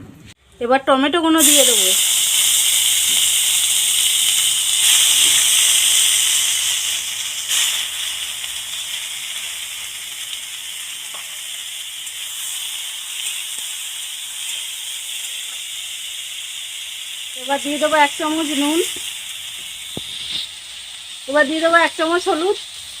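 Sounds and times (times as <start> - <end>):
tomatoes sizzling in hot oil: 1.3 - 23.0.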